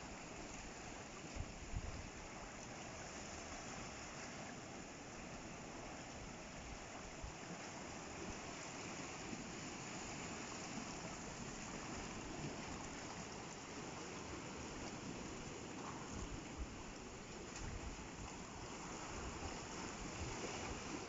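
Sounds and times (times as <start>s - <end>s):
surf washing over rocks: 0.0s - 21.0s.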